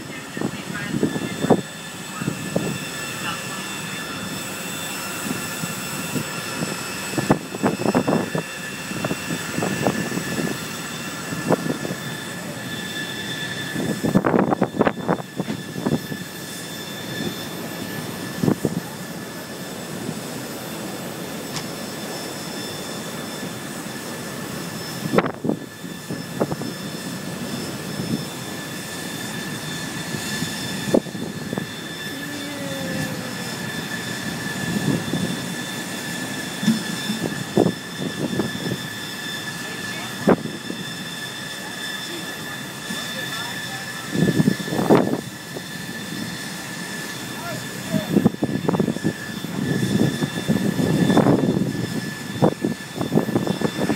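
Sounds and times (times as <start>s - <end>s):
wind buffeting microphone: 0.0s - 22.1s, 23.1s - 53.9s
ship machinery rushing and whining: 0.0s - 53.9s.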